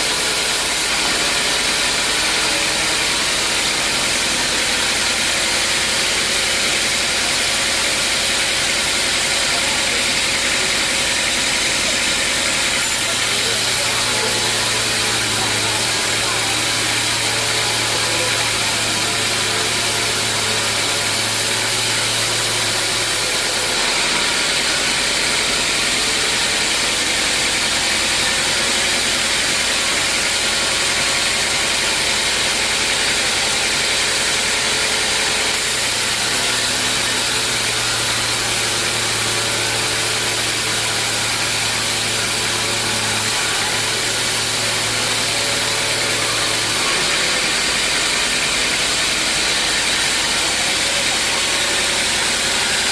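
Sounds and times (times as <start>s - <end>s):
sawmill machinery running: 0.0s - 52.9s.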